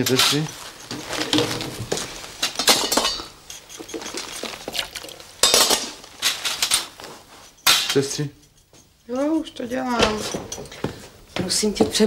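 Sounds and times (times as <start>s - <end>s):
metal instruments clinking on a tray: 0.0s - 11.0s.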